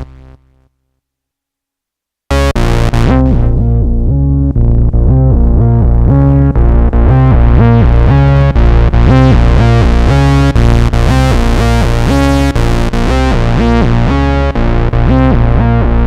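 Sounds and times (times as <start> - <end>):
synthesizer bass phrase: 2.3 - 16.0.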